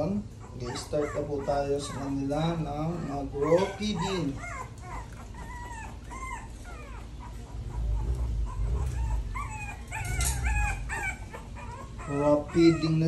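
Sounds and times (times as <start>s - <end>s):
puppies whining and yipping: 0.3s - 13.0s.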